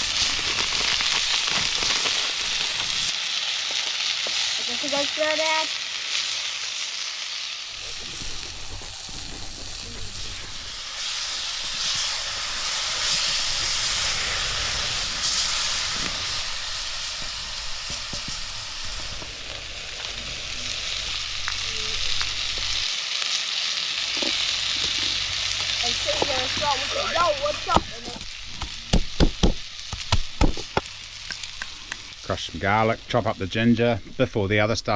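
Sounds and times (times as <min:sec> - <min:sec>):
meat sizzling in a pot: 0:00.0 - 0:34.9.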